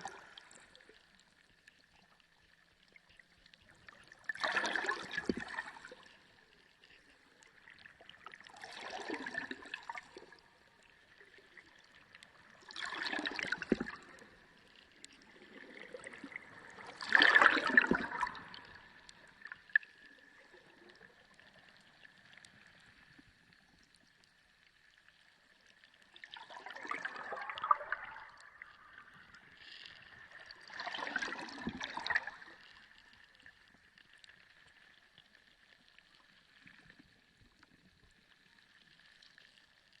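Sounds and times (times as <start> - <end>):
underwater gurgling bubbling water: 0.0 - 40.0.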